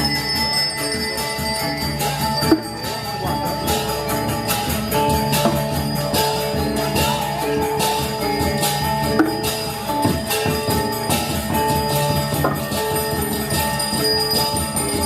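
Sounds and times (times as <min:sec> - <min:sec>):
cymbals clashing: 0:00.0 - 0:15.0
gamelan metallophones and gongs: 0:00.0 - 0:15.0.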